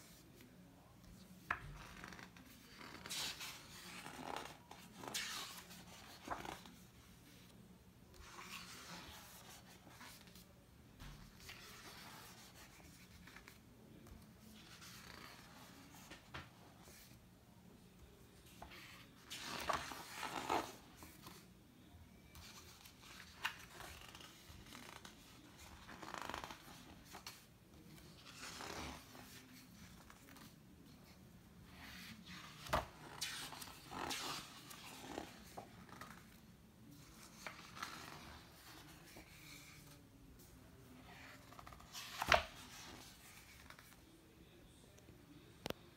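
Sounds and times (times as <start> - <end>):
book pages turning: 0.0 - 17.2, 18.0 - 21.5, 22.2 - 44.2.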